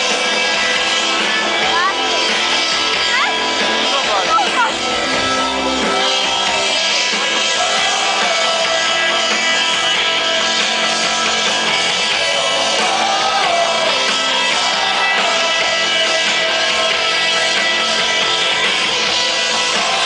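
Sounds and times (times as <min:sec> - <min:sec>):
drums: 0:00.0 - 0:20.0
electric guitars ringing: 0:00.0 - 0:20.0.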